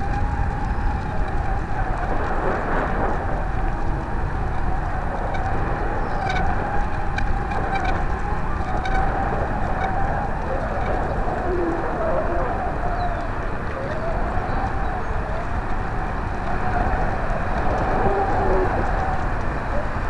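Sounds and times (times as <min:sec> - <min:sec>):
wavering drone: 0:00.0 - 0:20.0
wind on microphone: 0:00.0 - 0:20.0.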